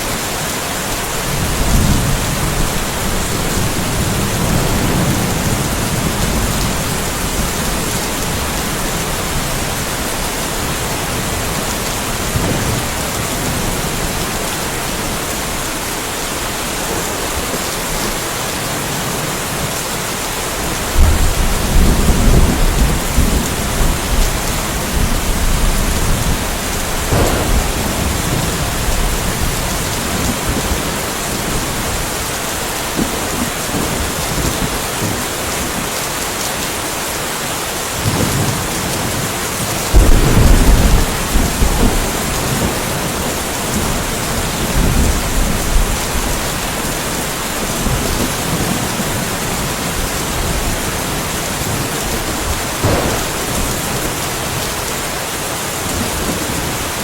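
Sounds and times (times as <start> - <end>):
steady rain: 0.0 - 57.0
thunder rumbling: 1.2 - 19.7, 20.6 - 35.2, 39.9 - 47.0, 47.6 - 55.2.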